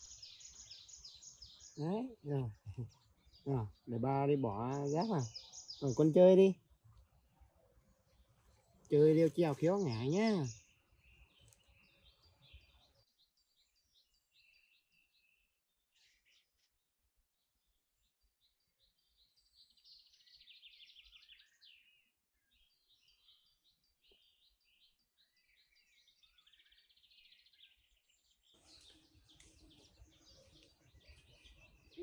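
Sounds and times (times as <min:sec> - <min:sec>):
small birds chirping and trilling: 0:00.0 - 0:32.0.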